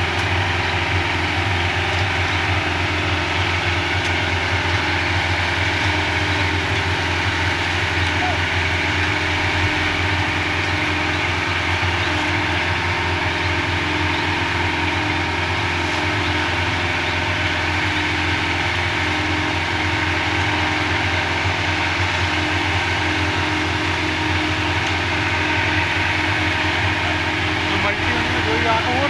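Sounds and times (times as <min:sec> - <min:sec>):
concrete mixer engine running: 0:00.0 - 0:29.0.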